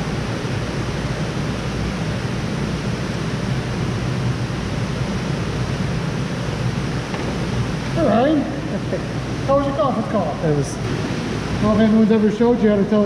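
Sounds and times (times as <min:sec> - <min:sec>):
steady rushing water noise: 0:00.0 - 0:13.0.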